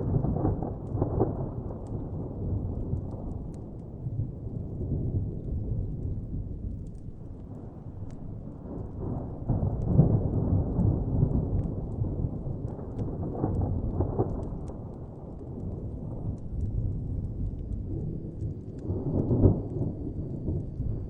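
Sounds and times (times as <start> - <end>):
distant thunder rumbling: 0.0 - 7.0, 8.4 - 21.0
wood fire crackling: 0.0 - 21.0.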